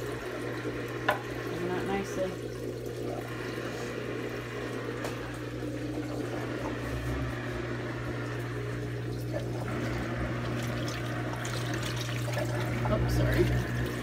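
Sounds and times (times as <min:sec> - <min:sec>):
drain pump humming: 0:00.0 - 0:14.0
water pouring into toilet bowl: 0:00.0 - 0:14.0.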